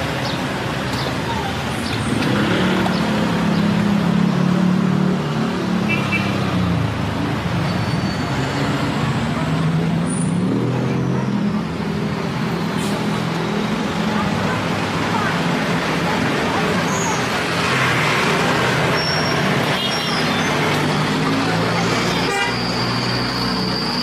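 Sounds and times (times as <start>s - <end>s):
cars driving past: 0.0s - 24.0s
steady road noise: 0.0s - 24.0s.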